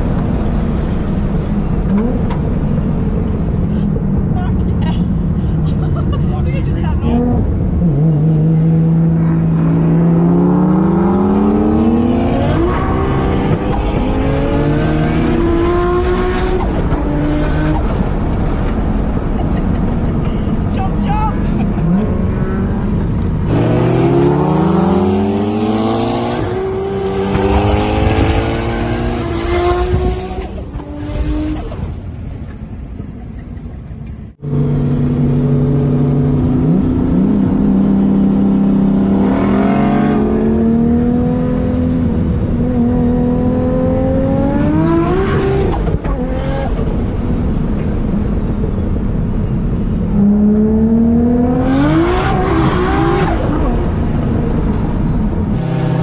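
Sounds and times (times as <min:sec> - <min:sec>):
car engine accelerating hard: 0:06.6 - 0:20.7, 0:21.4 - 0:32.0, 0:34.3 - 0:56.0.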